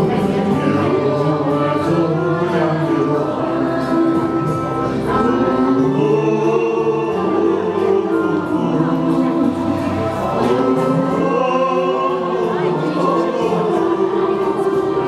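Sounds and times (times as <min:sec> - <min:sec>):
karaoke backing track: 0:00.0 - 0:15.0
man and woman singing duet: 0:00.0 - 0:15.0.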